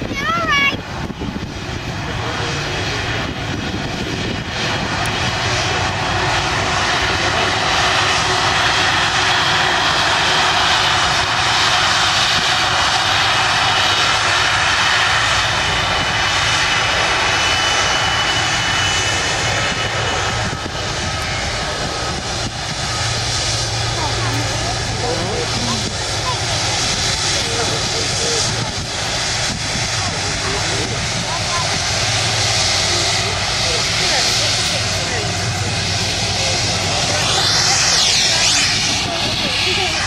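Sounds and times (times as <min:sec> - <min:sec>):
jet engines rushing: 0:00.0 - 0:40.0.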